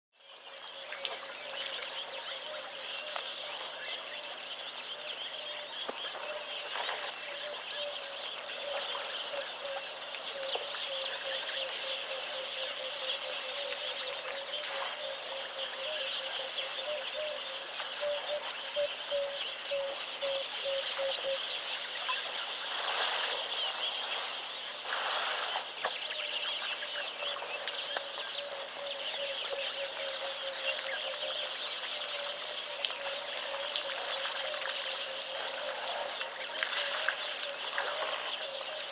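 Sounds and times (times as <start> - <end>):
chorus of bird chirps: 0.2 - 38.9
low repeated bird call: 0.2 - 38.9.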